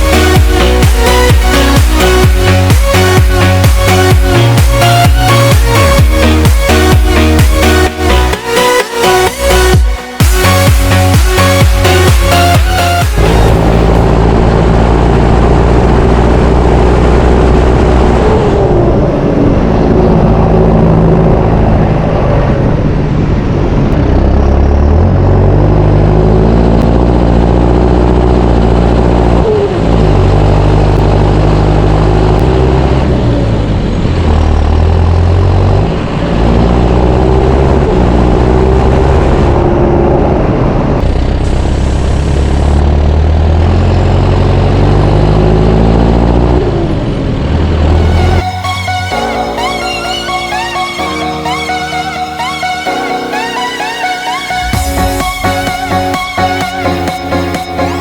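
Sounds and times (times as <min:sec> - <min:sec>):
tractor diesel engine revving: 0:00.0 - 0:49.8.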